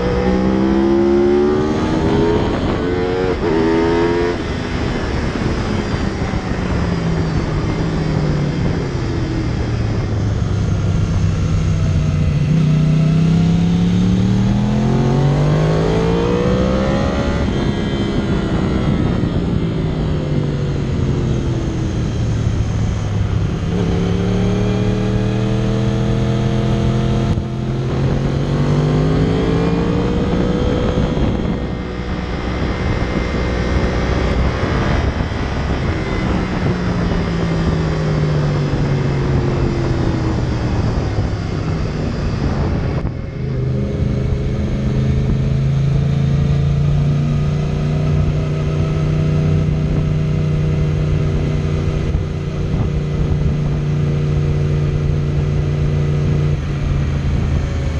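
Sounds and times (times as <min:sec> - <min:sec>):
motorcycle engine revving: 0:00.0 - 0:57.9
wind rushing: 0:00.0 - 0:57.9.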